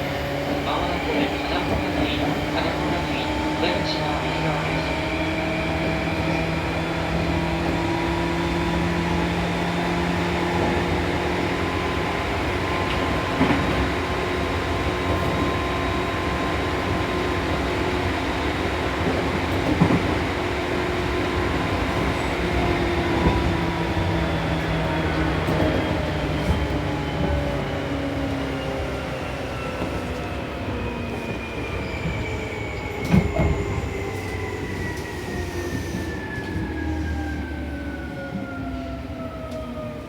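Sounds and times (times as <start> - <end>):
wheels rumbling on rail: 0.0 - 40.0.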